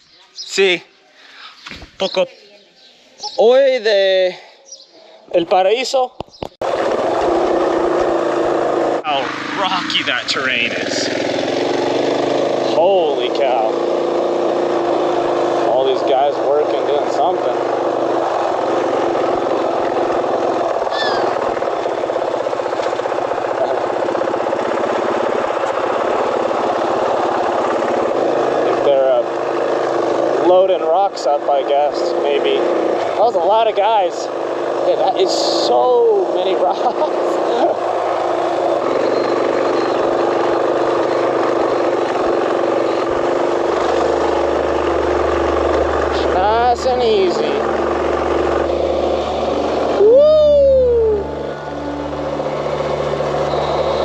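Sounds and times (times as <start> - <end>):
motorcycle engine running: 5.6 - 54.0.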